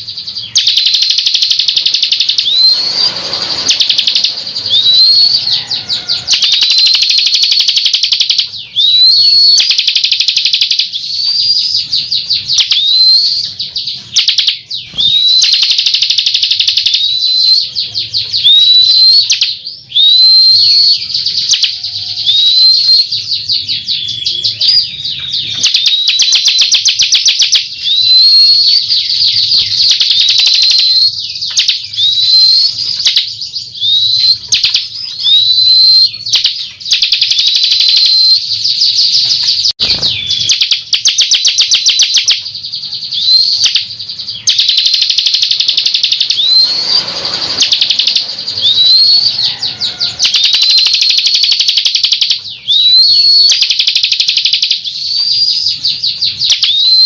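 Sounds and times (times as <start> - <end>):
bird song with buzzing trills: 0.0 - 57.0.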